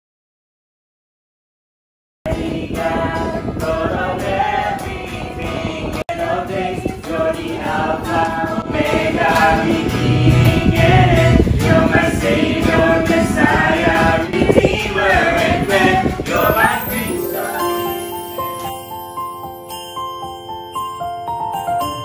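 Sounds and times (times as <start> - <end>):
choir singing with music: 2.3 - 22.0.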